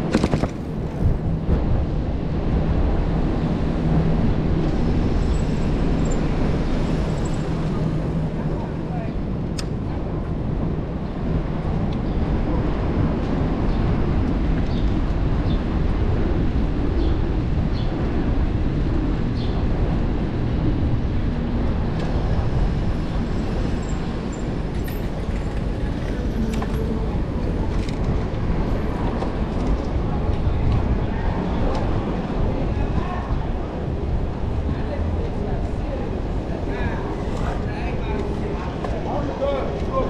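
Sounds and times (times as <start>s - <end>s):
road noise: 0.0s - 40.0s
wind rumble: 0.0s - 40.0s.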